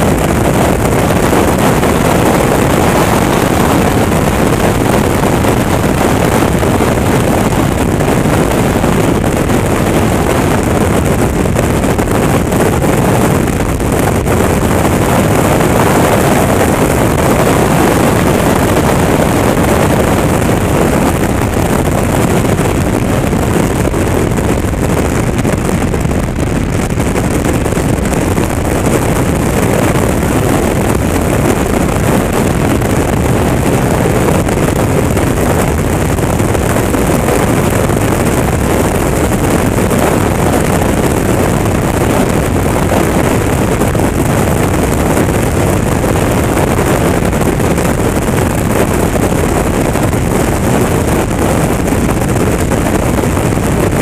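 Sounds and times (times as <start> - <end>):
road noise: 0.0 - 53.7
wind rush on microphone: 0.0 - 54.0.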